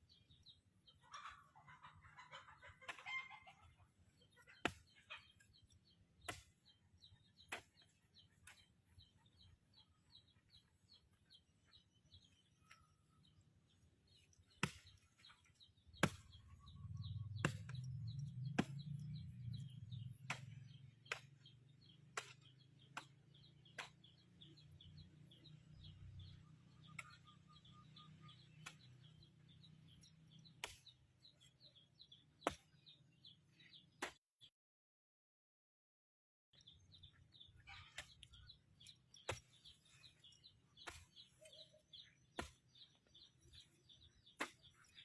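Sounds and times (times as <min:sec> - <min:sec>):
small birds chirping: 0:00.0 - 0:34.2, 0:36.6 - 0:45.0.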